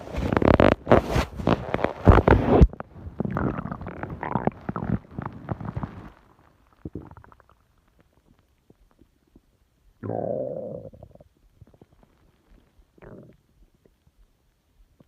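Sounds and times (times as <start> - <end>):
stomach growling: 0.2 - 14.2.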